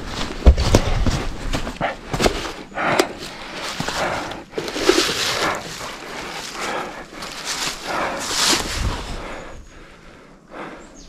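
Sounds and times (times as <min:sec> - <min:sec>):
dry leaves crunching: 0:00.0 - 0:09.2.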